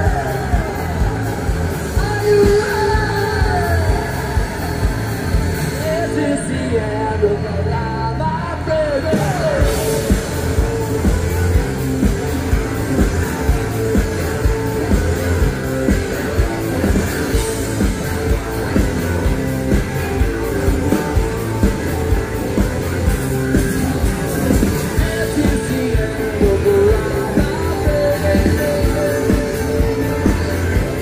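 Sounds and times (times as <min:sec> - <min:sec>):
drums keeping a steady beat: 0:00.0 - 0:06.7, 0:09.0 - 0:31.0
bass guitar: 0:00.0 - 0:31.0
electric guitar: 0:00.0 - 0:31.0.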